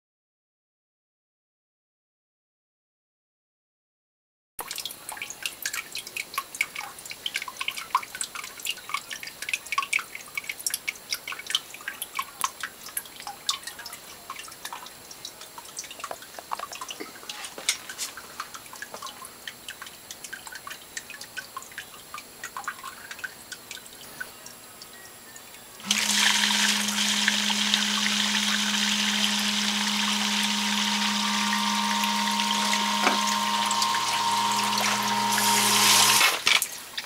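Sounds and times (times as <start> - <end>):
water dripping and trickling: 4.6 - 37.0.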